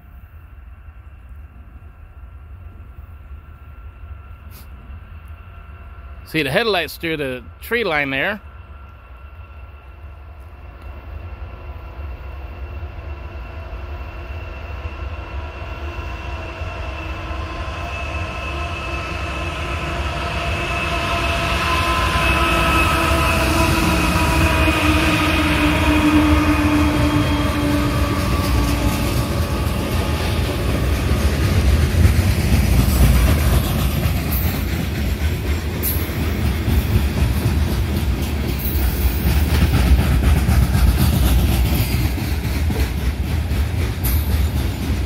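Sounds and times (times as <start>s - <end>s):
diesel locomotive engine drone: 0.0s - 45.0s.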